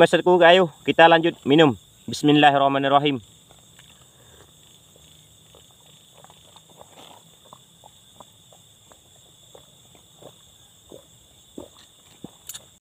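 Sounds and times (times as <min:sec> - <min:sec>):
crickets and night insects: 0:00.0 - 0:12.8.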